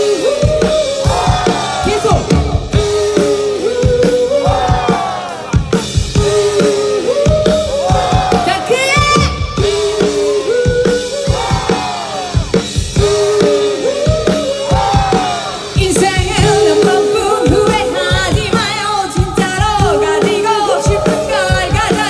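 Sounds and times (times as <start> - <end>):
drum kit beat: 0.0 - 22.0
rock band playing live: 0.0 - 22.0.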